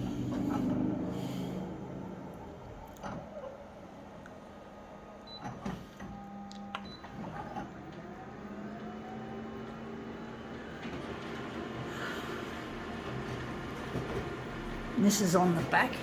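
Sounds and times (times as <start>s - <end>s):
photocopier humming: 0.0s - 16.0s.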